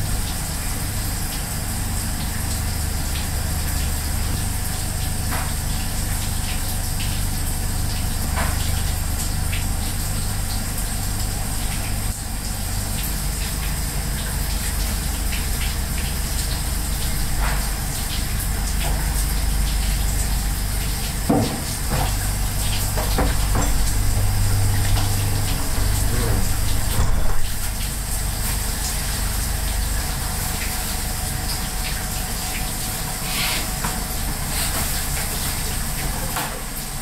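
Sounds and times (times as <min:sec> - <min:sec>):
kitchen rush with low hum: 0:00.0 - 0:37.0.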